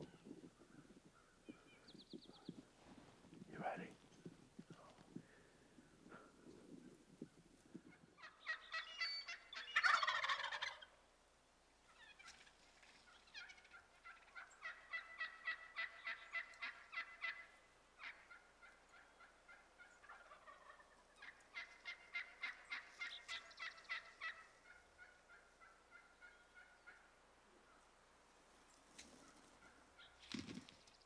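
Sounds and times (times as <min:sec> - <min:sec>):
wild turkeys calling: 0:00.0 - 0:31.0.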